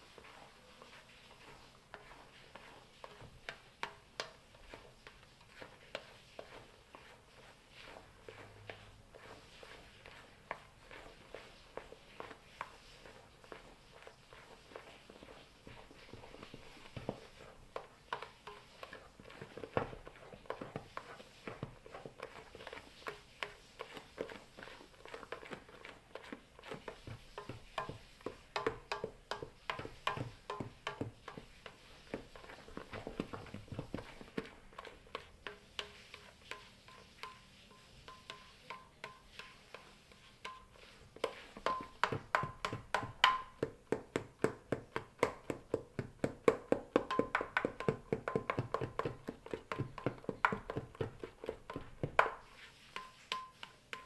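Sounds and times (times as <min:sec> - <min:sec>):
utensil beating batter in metal bowl: 0:00.0 - 0:54.0.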